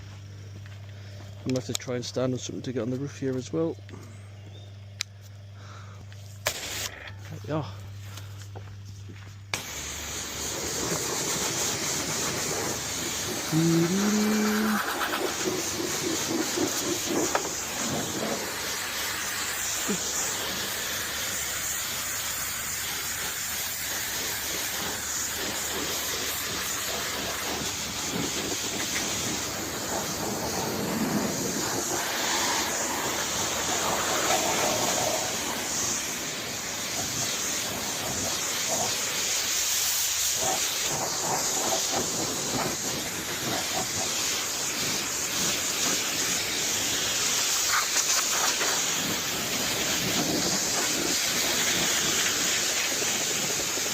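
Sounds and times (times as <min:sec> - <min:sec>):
pressure washer spraying water: 0:06.4 - 0:07.0, 0:09.5 - 0:53.9.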